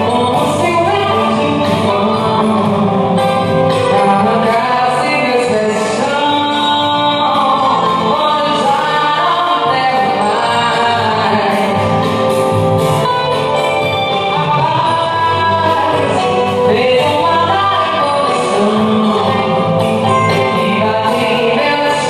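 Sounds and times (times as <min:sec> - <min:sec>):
song with singing: 0:00.0 - 0:22.0.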